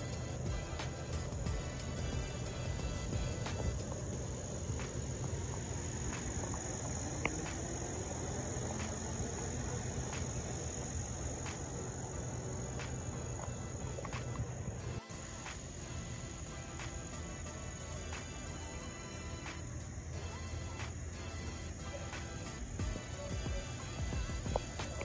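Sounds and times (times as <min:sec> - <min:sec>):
faint ticks: 0:00.0 - 0:25.0
insects trilling: 0:00.0 - 0:25.0.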